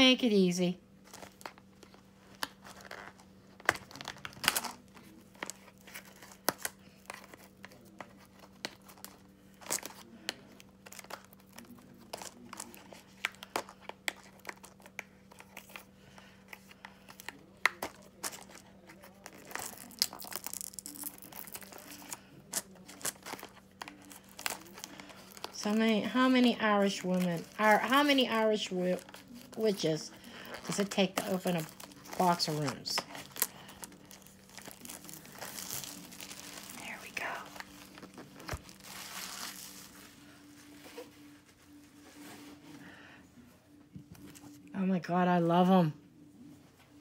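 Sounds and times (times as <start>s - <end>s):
plastic shrink wrap crinkling: 1.0s - 42.5s.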